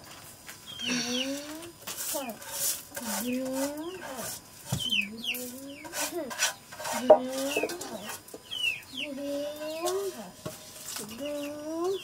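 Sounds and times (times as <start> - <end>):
chicks peeping: 0.7 - 2.4, 3.2 - 10.4, 11.0 - 12.0.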